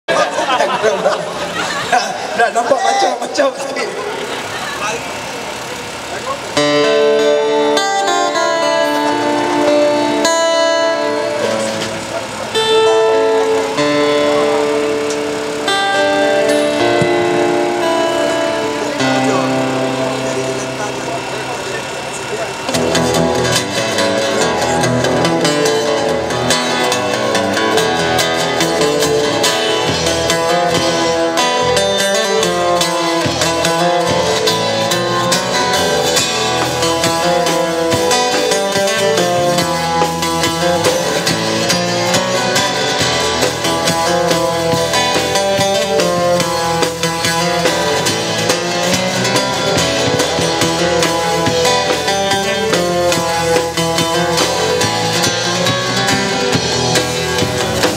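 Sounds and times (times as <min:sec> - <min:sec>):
acoustic guitar picking: 0:00.1 - 0:57.9.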